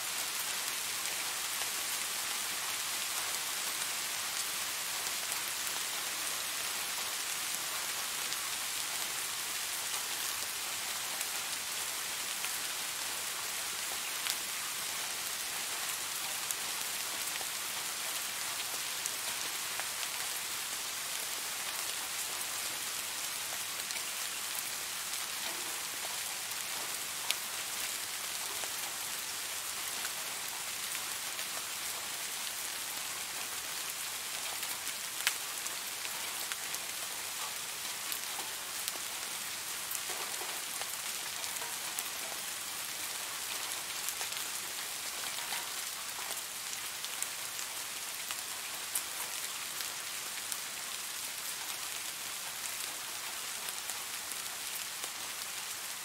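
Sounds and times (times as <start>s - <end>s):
steady rain falling: 0.0s - 56.0s
raindrops ticking close by: 0.2s - 56.0s.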